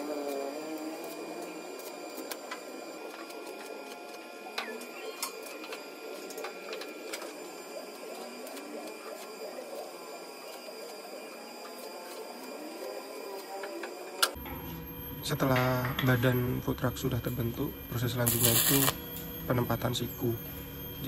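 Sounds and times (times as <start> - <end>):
arc welding whine and crackles: 0.0 - 21.0.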